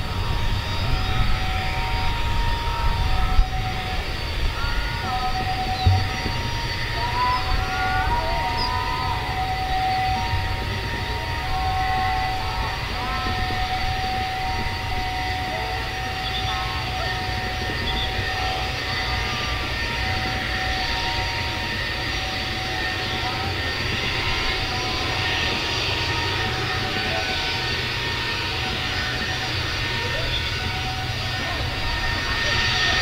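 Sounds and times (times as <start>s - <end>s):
jet engines rumbling and whining: 0.0s - 33.0s.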